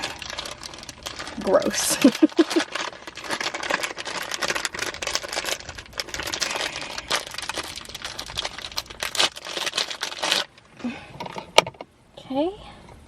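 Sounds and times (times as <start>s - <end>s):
plastic crinkling and clicking: 0.0s - 11.8s.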